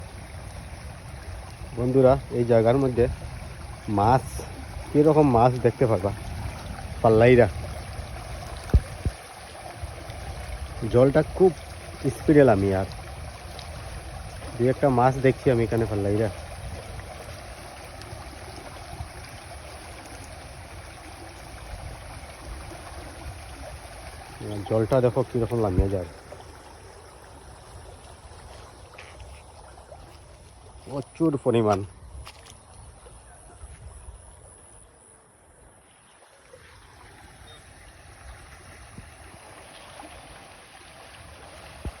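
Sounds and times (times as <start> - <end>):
floodwater rushing: 0.0 - 42.0.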